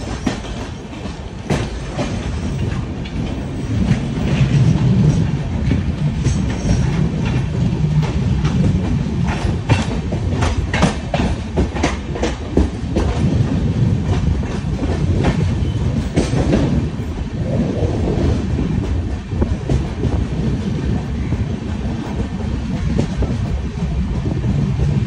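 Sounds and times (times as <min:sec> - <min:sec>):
train wheels rumbling on track: 0:00.0 - 0:25.0
wheels clickety-clack on rail joints: 0:00.0 - 0:25.0.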